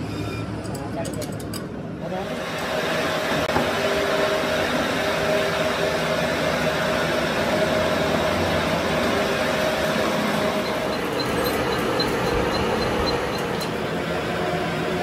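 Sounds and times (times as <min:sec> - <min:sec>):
machine humming steadily: 0:00.0 - 0:15.0.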